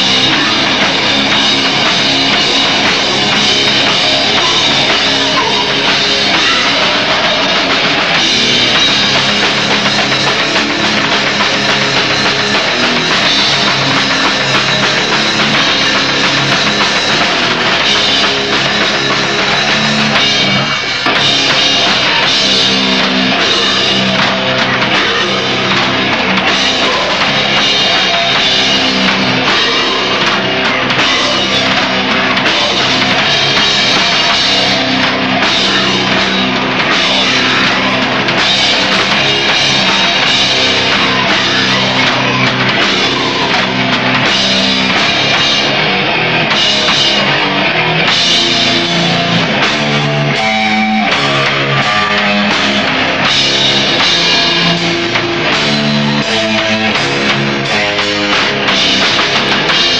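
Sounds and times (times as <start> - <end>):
death metal band playing: 0.0 - 59.9
distorted electric guitars: 0.0 - 59.9
drum kit: 0.0 - 59.9.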